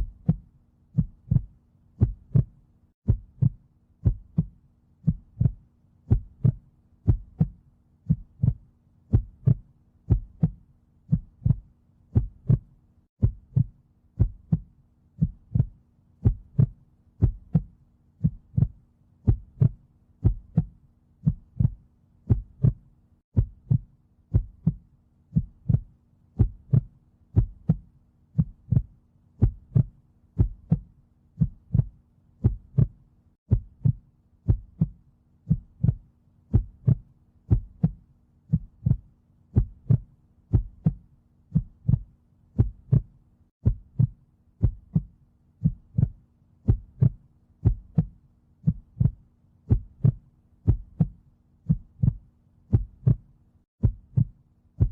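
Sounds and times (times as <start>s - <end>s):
heartbeat double thump: 1.0s - 27.8s, 28.4s - 39.0s, 39.6s - 53.2s, 53.8s - 54.9s.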